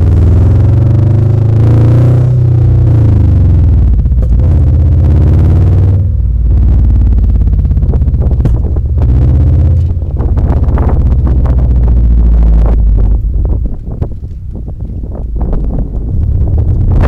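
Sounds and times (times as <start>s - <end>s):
loud car engine droning: 0.0s - 17.0s.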